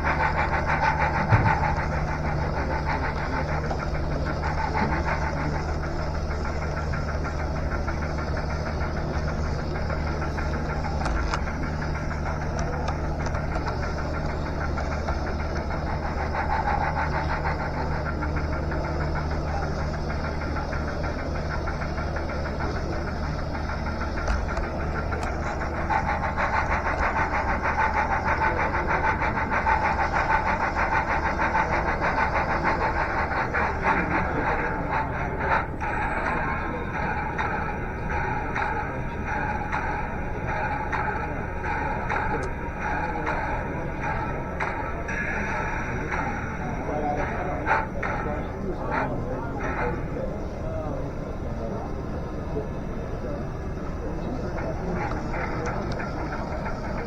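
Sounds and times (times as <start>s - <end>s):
model train motor hum: 0.0s - 57.0s
rapid even clicking of wheels: 0.0s - 57.0s
sharp ticks: 0.0s - 57.0s
steady whine: 0.0s - 57.0s.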